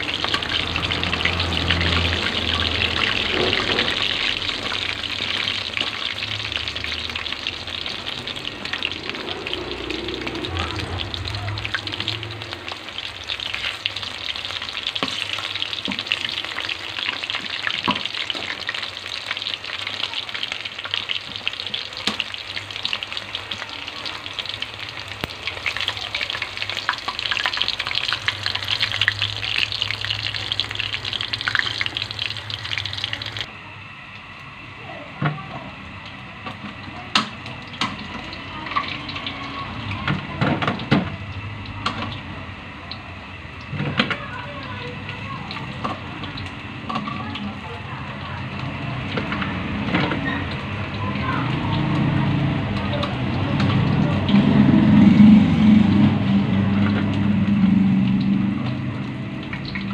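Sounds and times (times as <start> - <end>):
chicken deep-frying in hot oil: 0.0 - 59.9.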